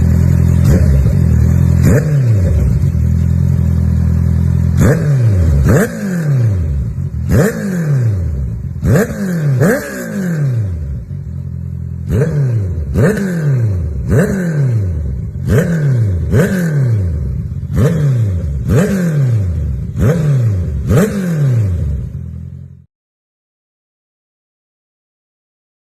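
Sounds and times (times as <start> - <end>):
motorcycle engine throttle blips: 0.0 - 22.9.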